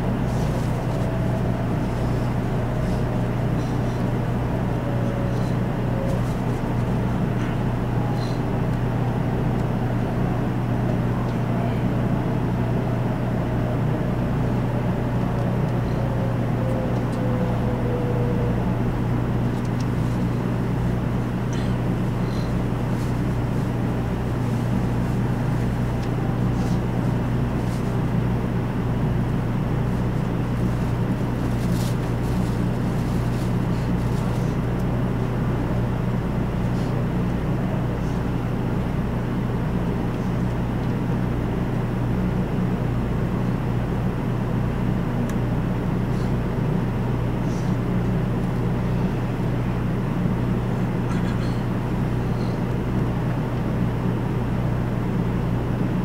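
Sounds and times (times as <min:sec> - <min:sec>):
train cabin hum and rumble: 0:00.0 - 0:56.0.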